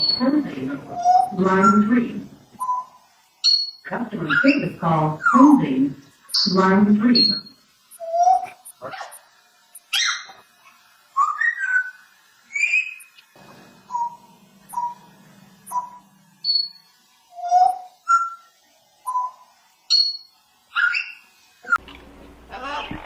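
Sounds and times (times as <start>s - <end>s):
parrot whistling and chirping: 0.0s - 5.4s, 6.2s - 10.4s, 11.1s - 21.8s.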